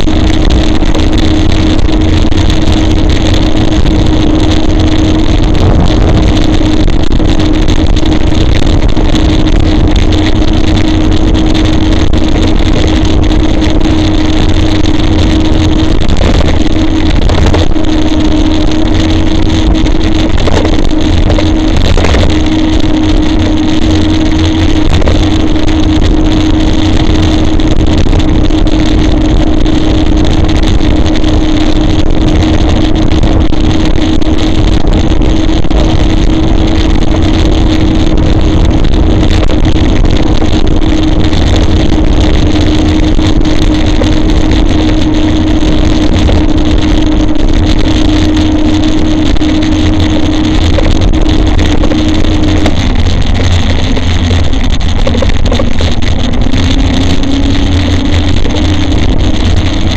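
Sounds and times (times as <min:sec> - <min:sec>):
constant hum: 0:00.0 - 0:59.9
wind and road rumble: 0:00.0 - 0:59.9.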